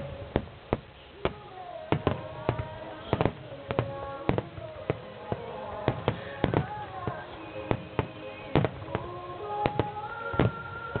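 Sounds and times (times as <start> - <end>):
fireworks bangs: 0.0 - 11.0
music playing: 1.4 - 11.0.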